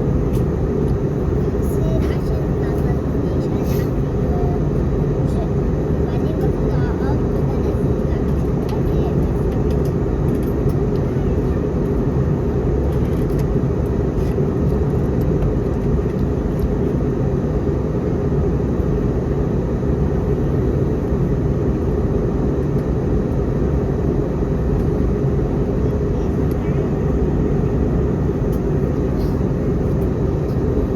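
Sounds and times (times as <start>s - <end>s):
aircraft cabin drone: 0.0s - 30.9s.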